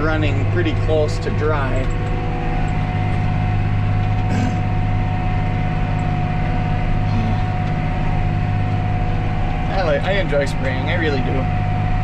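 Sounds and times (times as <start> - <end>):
thin whine: 0.0 - 12.0
tractor engine drone: 0.0 - 12.0.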